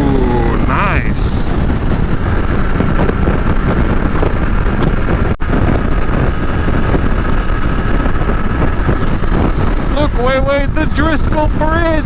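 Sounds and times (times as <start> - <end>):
motorcycle engine and road noise: 0.0 - 12.0
wind rushing over microphone: 0.0 - 12.0.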